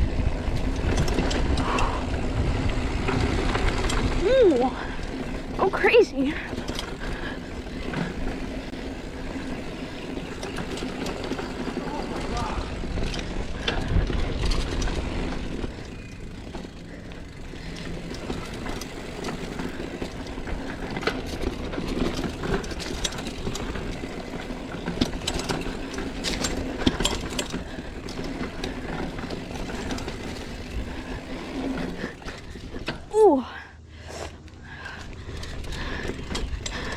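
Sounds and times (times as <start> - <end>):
bike clicks and rattles: 0.0 - 36.9
bike tyres rolling on dirt: 0.0 - 36.9.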